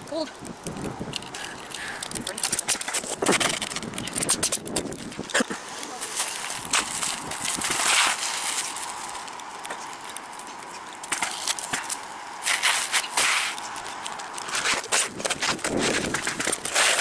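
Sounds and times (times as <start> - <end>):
shingles crinkling and scraping: 0.2 - 17.0.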